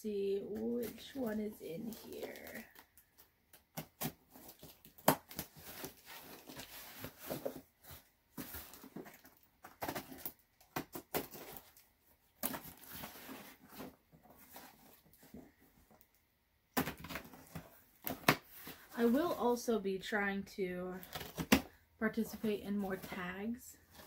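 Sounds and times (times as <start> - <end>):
cardboard rustling and crinkling: 0.4 - 16.2, 16.8 - 19.6, 20.9 - 24.0.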